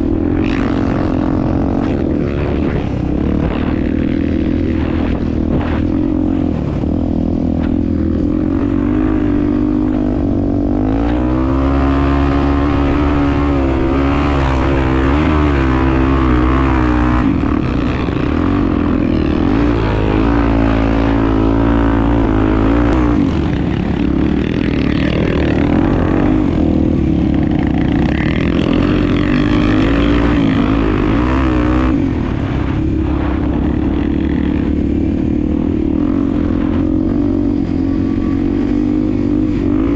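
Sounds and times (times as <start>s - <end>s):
motorcycle engine revving off-road: 0.0s - 39.9s.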